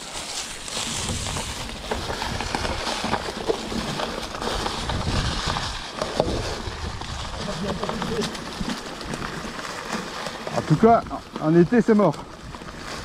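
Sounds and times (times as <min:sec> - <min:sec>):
bike tyres crunching leaves: 0:00.0 - 0:13.0
twigs cracking and snapping: 0:00.0 - 0:13.0.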